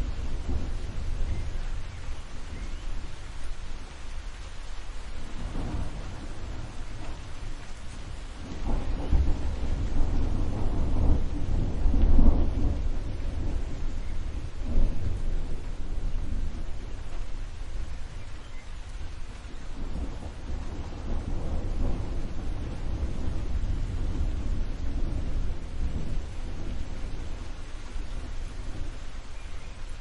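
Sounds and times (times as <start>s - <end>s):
steady rain: 0.0s - 30.0s
thunder rumbling: 0.0s - 30.0s.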